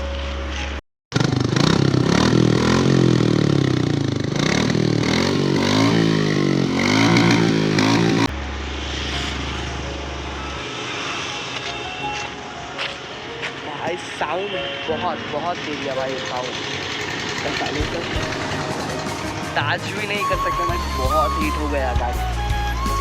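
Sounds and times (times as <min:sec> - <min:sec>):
motorcycle engine revving: 0:01.1 - 0:12.4, 0:15.2 - 0:22.9.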